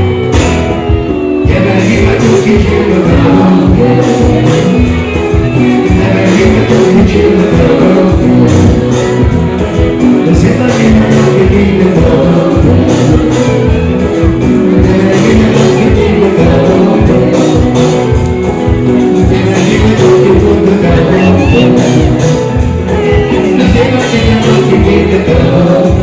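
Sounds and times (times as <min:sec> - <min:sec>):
live band with singer: 0:00.0 - 0:26.0.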